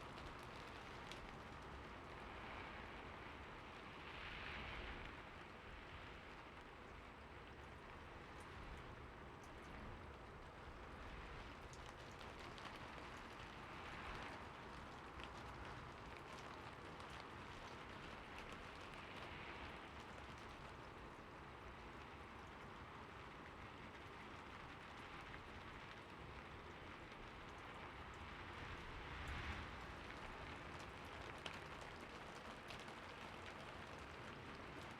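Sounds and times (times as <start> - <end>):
rain on a roof: 0.0 - 34.9.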